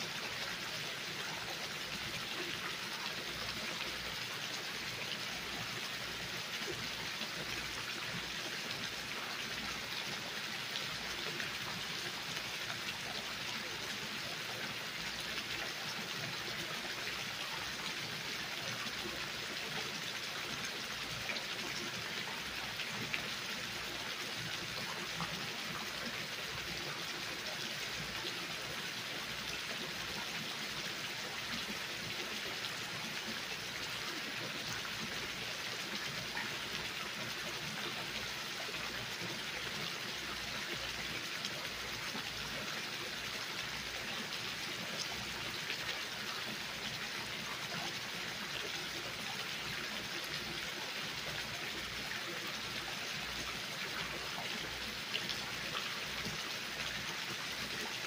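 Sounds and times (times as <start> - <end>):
fountain water splashing: 0.0 - 58.0.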